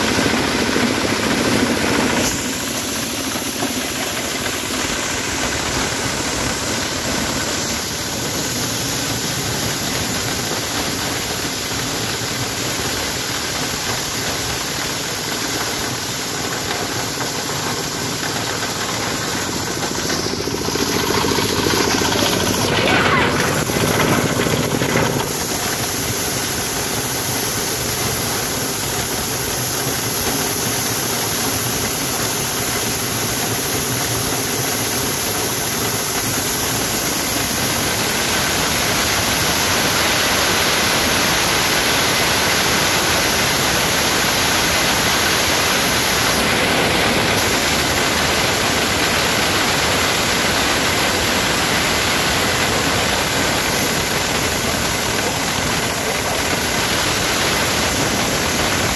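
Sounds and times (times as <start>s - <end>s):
corn kernels spraying: 0.0s - 58.9s
corn sheller machine running: 0.0s - 58.9s.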